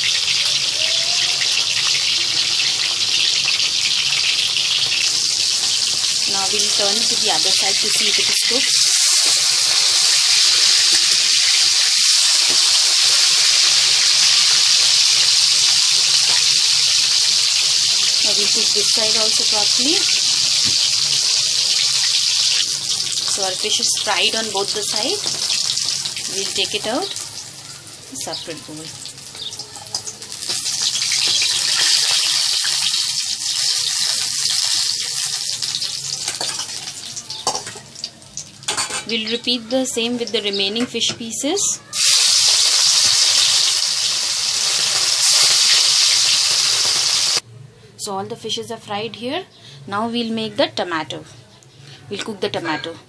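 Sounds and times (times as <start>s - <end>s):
fish sizzling in hot oil: 0.0s - 39.4s, 41.8s - 47.4s.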